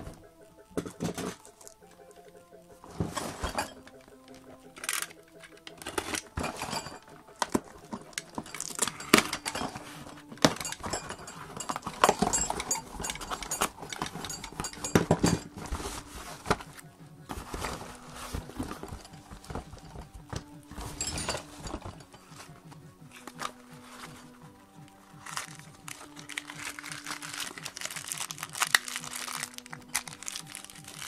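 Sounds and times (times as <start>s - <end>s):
small card boxes knocking: 0.0s - 1.8s, 2.9s - 31.0s.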